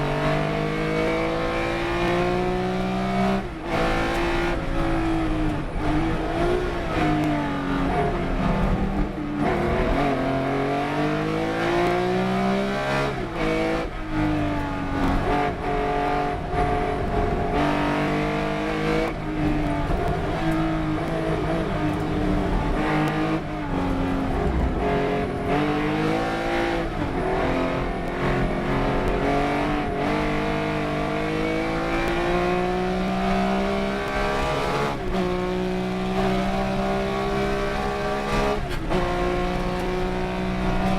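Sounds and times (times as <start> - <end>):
race car engine at full throttle: 0.0 - 40.9.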